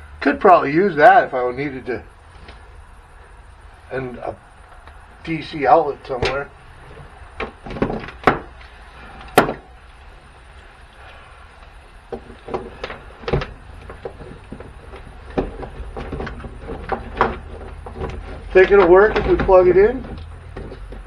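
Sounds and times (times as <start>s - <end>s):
plastic and metal parts knocking: 0.3s - 21.0s.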